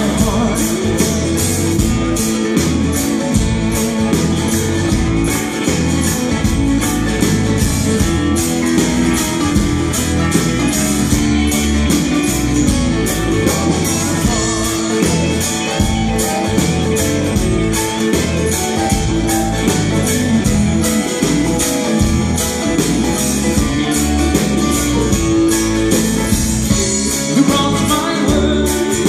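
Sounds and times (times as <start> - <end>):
drums keeping a steady beat: 0.0 - 29.0
guitars strummed: 0.0 - 29.0
live rock band playing: 0.0 - 29.0.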